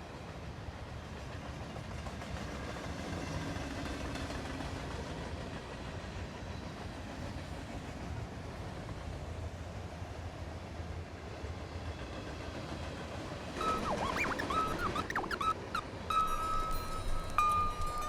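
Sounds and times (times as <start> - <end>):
freight train rolling on rails: 0.0 - 18.0.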